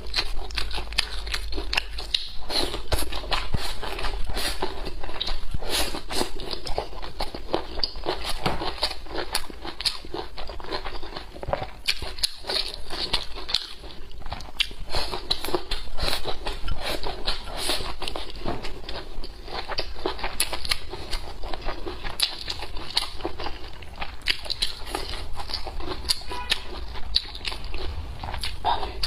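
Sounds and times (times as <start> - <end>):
chewing and wet mouth sounds: 0.0 - 29.0.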